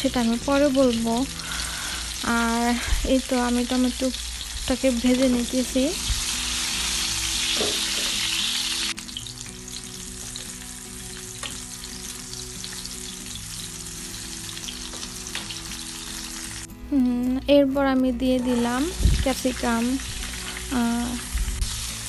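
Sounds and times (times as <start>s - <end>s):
slices sizzling in hot oil: 0.0s - 16.7s, 18.5s - 22.0s.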